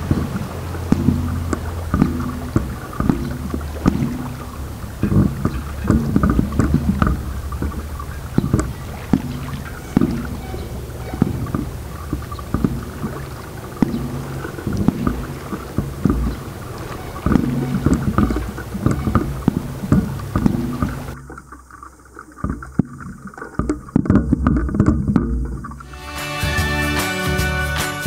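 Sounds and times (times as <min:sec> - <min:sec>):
exhaled bubbles rumbling underwater: 0:00.0 - 0:25.9.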